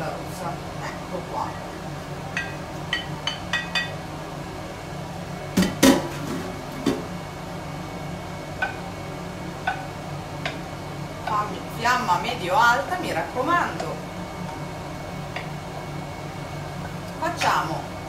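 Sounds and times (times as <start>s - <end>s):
cooker hood humming: 0.0s - 18.0s.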